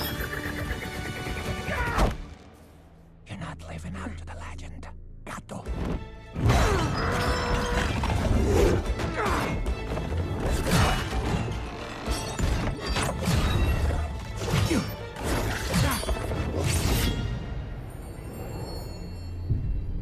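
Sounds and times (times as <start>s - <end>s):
dramatic film score: 0.0s - 20.0s.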